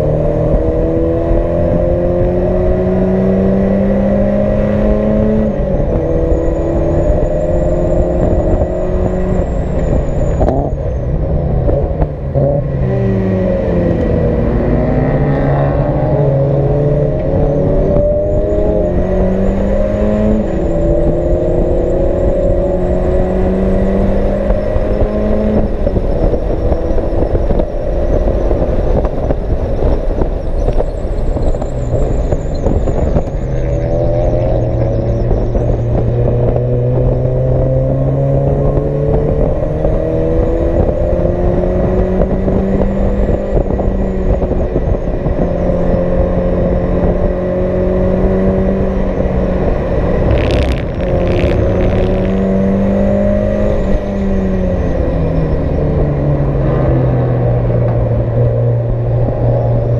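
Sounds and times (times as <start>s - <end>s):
race car engine revving: 0.0s - 59.9s
road and wind noise: 0.0s - 59.9s.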